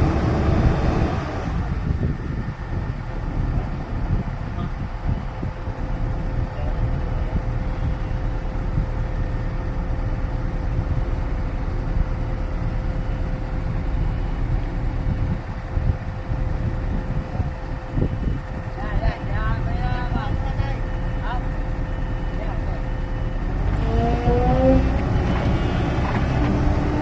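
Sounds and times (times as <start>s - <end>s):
diesel engine rumbling: 0.0s - 27.0s.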